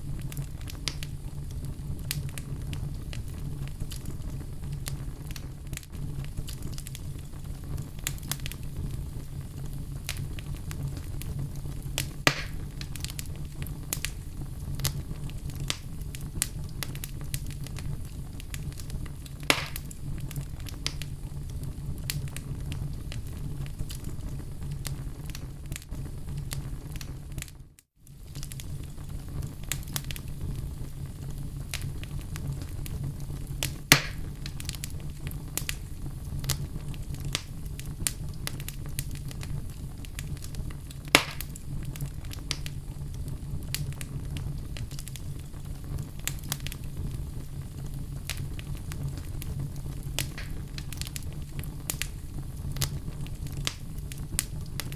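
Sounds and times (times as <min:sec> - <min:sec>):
loud fire pops: 0:00.0 - 0:54.9
low rumble of fire: 0:00.0 - 0:54.9
wood fire crackling: 0:00.0 - 0:54.9.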